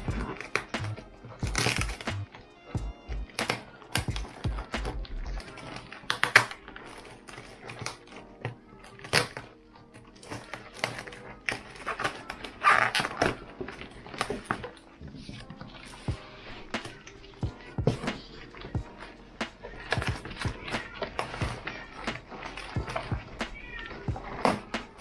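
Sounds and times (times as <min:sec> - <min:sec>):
cardboard and bubble wrap crinkling: 0:00.0 - 0:25.0.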